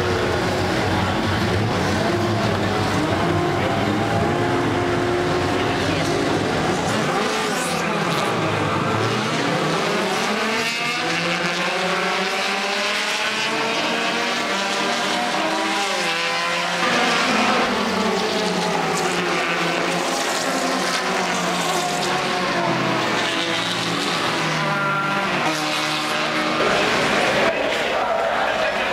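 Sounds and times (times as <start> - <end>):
race car engines: 0.0 - 28.9.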